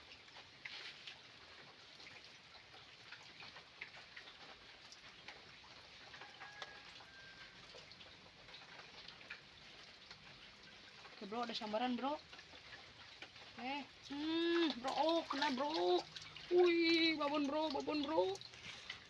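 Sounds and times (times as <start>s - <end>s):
raindrop ticks: 0.0s - 19.0s.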